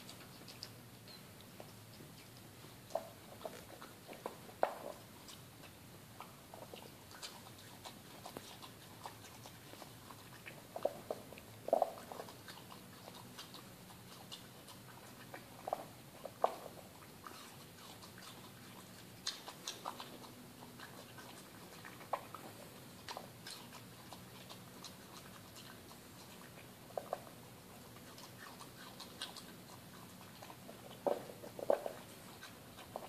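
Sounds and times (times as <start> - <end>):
dog chewing and crunching: 0.0 - 33.0.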